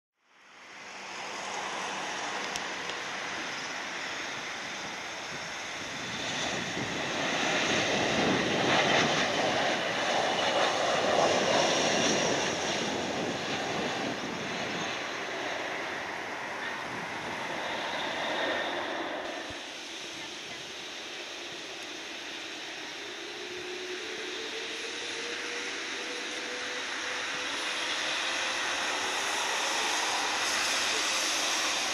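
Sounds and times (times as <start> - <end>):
jet airliner landing: 0.3 - 31.9.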